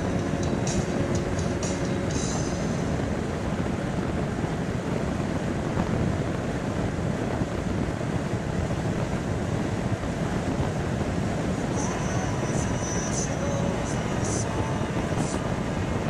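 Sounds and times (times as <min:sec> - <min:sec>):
tyres and wind rumble inside car: 0:00.0 - 0:16.0.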